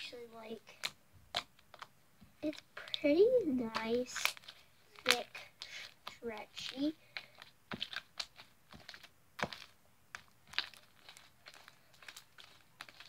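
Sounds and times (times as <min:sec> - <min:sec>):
slime clicking and crackling: 0:00.4 - 0:13.0.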